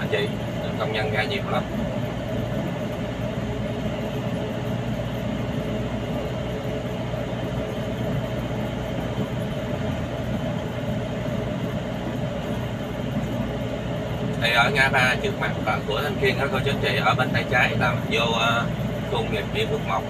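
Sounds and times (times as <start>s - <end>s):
road rumble: 0.0s - 20.0s
truck engine drone: 0.0s - 20.0s.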